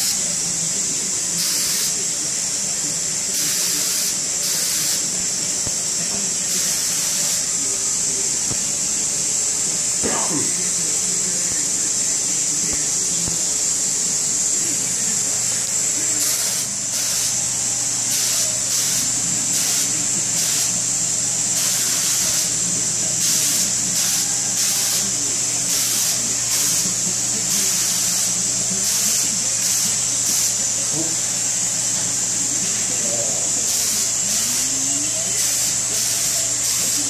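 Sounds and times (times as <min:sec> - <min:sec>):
spray gun hissing pulses: 0:00.0 - 0:37.0
steady high hiss: 0:00.0 - 0:37.0.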